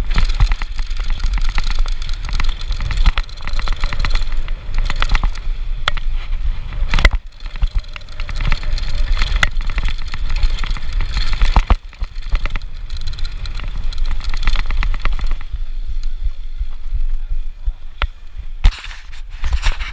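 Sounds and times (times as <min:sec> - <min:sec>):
bike rattling over bumps: 0:00.0 - 0:19.9.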